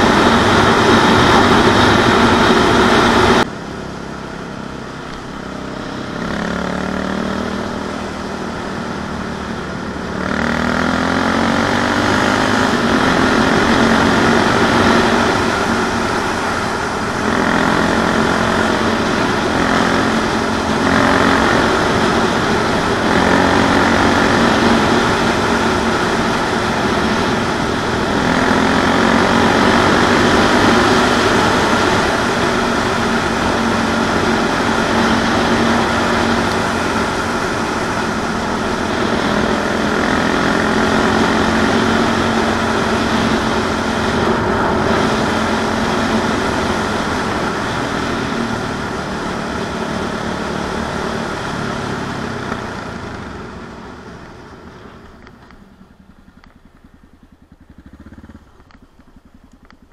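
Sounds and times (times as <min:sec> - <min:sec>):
motorcycle engine at road speed: 0:00.0 - 0:59.9
wind and tyre noise: 0:00.0 - 0:59.9.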